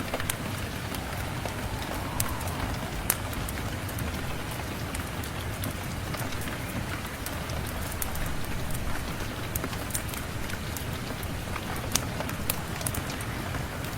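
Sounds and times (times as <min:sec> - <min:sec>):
steady rain: 0:00.0 - 0:13.9.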